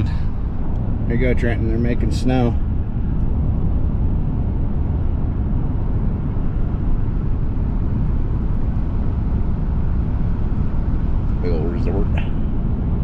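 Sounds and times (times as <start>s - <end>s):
road noise inside truck cab: 0.0s - 13.0s.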